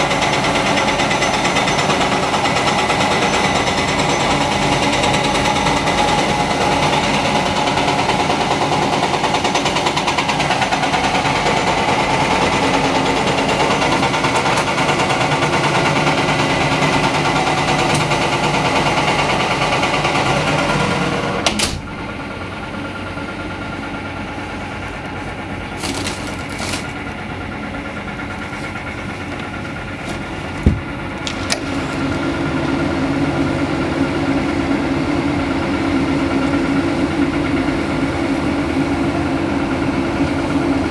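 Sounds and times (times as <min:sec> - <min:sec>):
construction machinery noise: 0:00.0 - 0:40.9
excavator diesel engine: 0:00.0 - 0:40.9.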